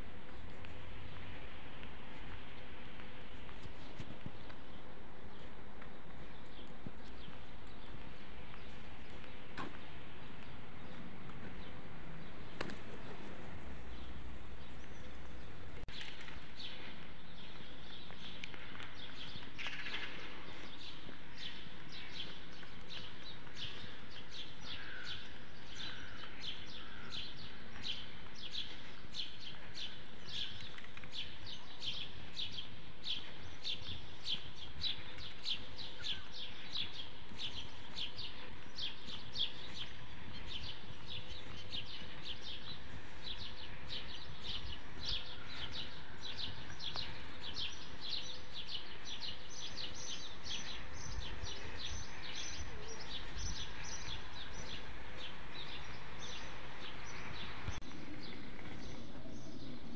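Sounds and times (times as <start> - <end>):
small birds chirping: 0.0 - 59.9
steady low street hum: 0.0 - 59.9.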